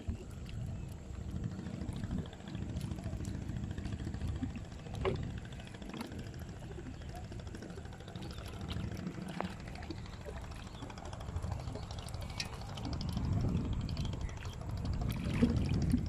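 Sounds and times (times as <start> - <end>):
steady low rumble: 0.0 - 16.0
water sloshing and splashing: 0.0 - 16.0.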